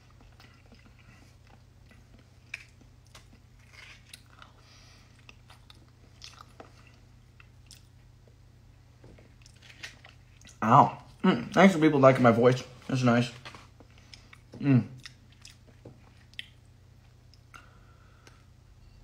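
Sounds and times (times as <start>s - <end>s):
person chewing: 0.0s - 8.4s, 9.1s - 11.7s, 13.5s - 18.5s
low steady hum: 0.0s - 19.0s.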